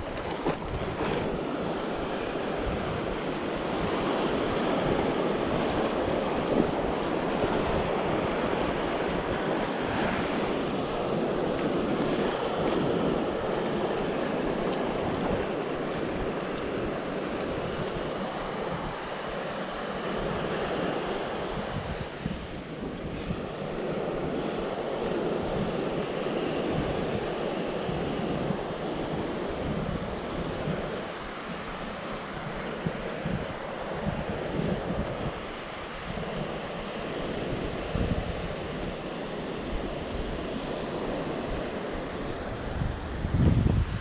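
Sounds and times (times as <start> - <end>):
waves breaking on beach: 0.0 - 44.0.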